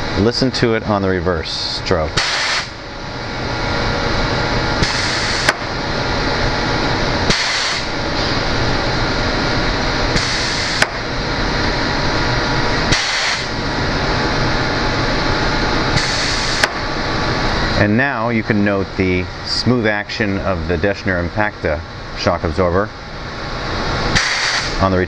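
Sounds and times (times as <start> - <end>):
machine hum: 0.0 - 25.0
air exhaust hissing: 1.3 - 25.0.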